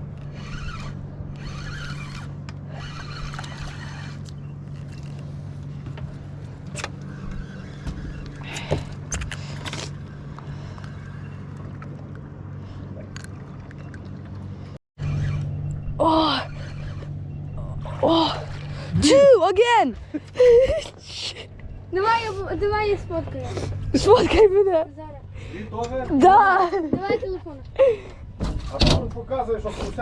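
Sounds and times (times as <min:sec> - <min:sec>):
outboard motor idling: 0:00.0 - 0:28.4.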